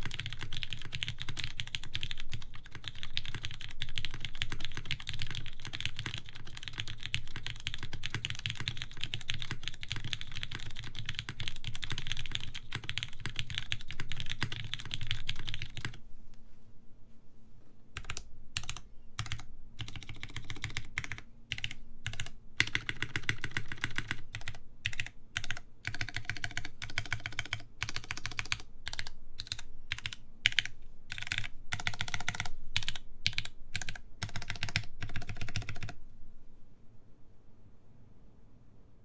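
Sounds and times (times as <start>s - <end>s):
mechanical keyboard typing: 0.0s - 16.0s, 18.0s - 36.0s.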